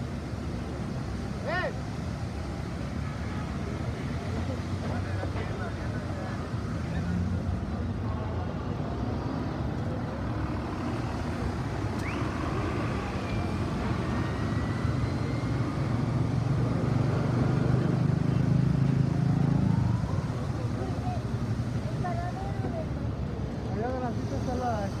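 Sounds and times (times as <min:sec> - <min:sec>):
passing cars and buses: 0:00.0 - 0:25.0.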